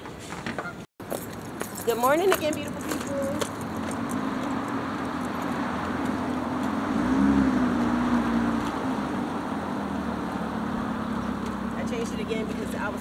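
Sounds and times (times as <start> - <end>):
steady traffic noise: 0.0 - 13.0
vehicle engine hum passing: 1.0 - 13.0.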